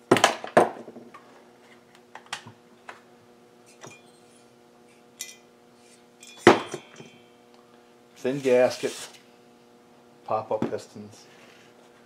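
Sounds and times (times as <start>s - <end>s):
steady low hum: 0.7s - 12.0s.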